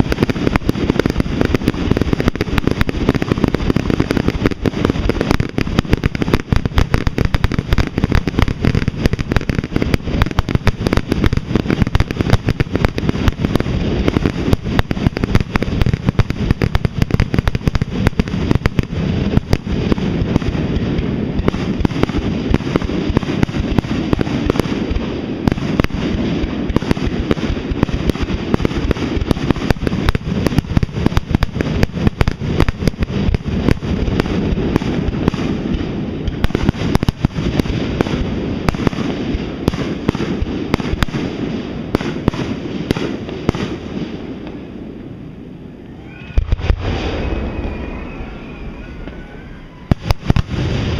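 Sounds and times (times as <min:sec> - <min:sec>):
fireworks bursting with sharp bangs: 0:00.0 - 0:50.9.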